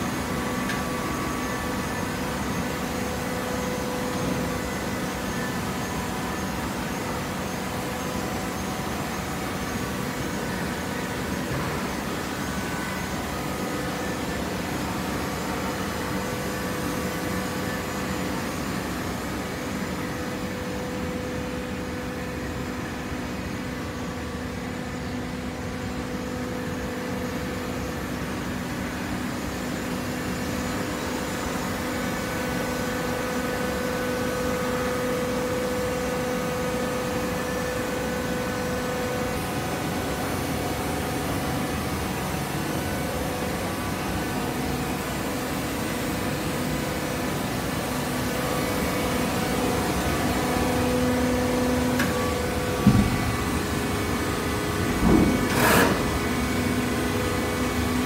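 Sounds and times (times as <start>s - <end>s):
machinery humming: 0.0s - 58.0s
mid-pitched mechanical whine: 0.0s - 58.0s.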